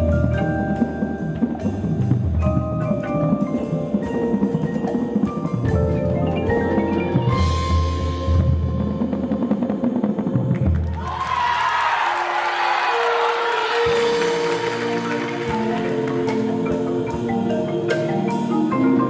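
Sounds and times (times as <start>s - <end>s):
marimbas and vibraphones: 0.0s - 9.5s, 12.9s - 19.0s.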